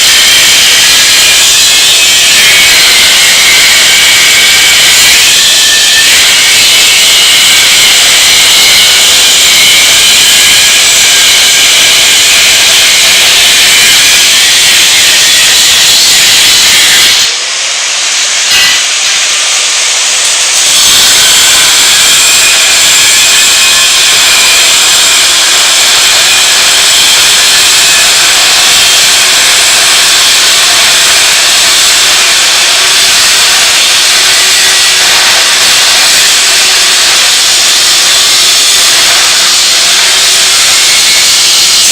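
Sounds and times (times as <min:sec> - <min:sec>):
angle grinder cutting metal: 0:00.0 - 0:41.9.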